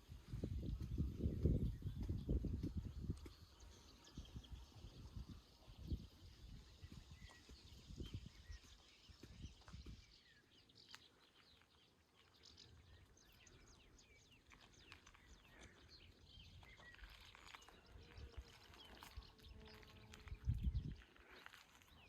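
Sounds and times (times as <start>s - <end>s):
faint birdsong chirps: 0.0s - 22.0s.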